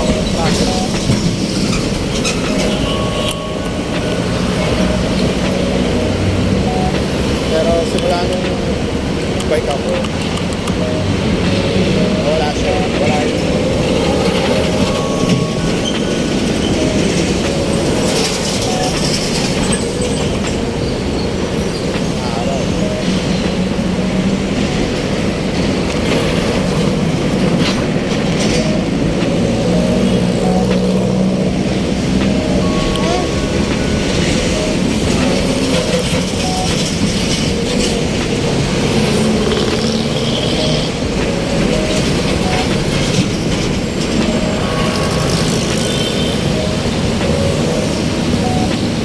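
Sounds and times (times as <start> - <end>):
traffic: 0.0 - 49.0.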